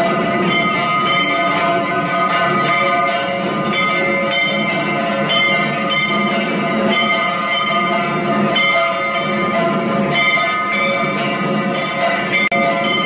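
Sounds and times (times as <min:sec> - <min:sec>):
bells ringing: 0:00.0 - 0:13.0.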